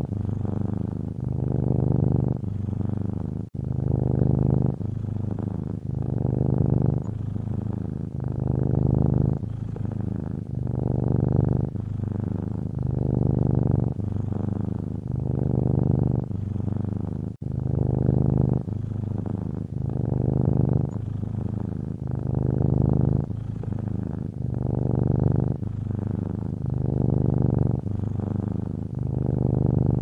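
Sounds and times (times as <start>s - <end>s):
cat purring: 0.0s - 30.0s.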